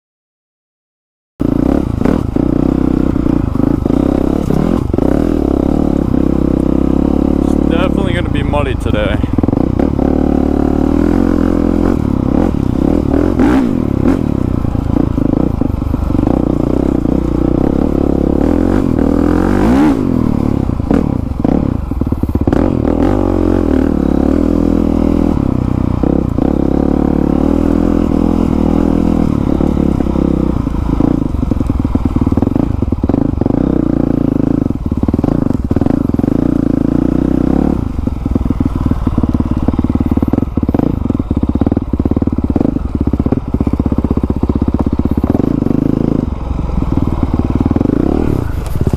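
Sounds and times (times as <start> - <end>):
motorcycle engine revving: 1.4 - 48.9.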